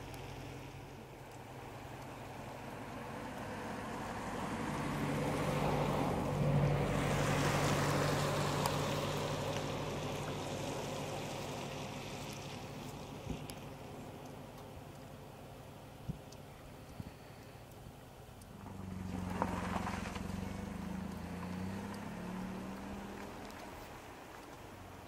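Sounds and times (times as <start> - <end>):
passing engine hum: 0.0 - 25.0.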